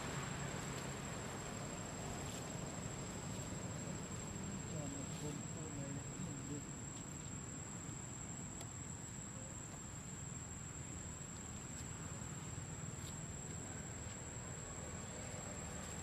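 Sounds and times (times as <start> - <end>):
insects droning: 0.0 - 16.0
low outdoor rumble: 0.0 - 16.0.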